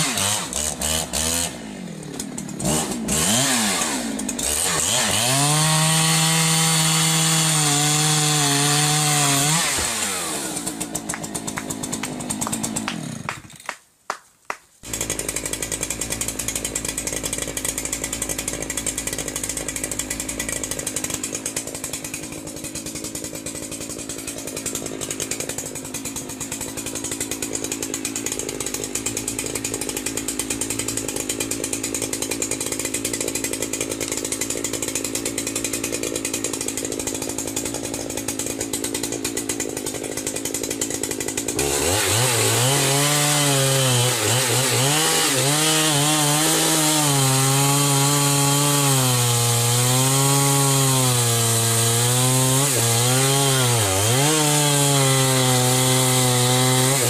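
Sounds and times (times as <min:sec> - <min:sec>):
chainsaw engine revving: 0:00.0 - 0:13.7, 0:14.8 - 0:57.0.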